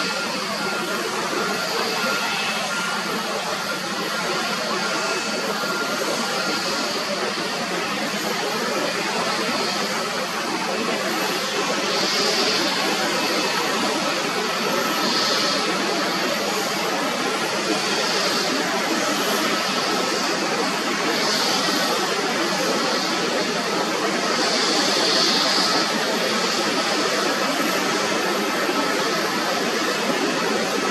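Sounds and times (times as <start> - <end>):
jet engines roaring: 0.0 - 30.9.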